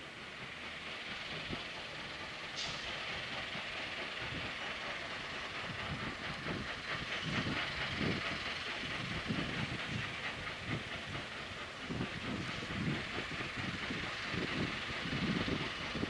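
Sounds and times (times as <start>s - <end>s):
steady rushing rumble: 0.0s - 16.0s.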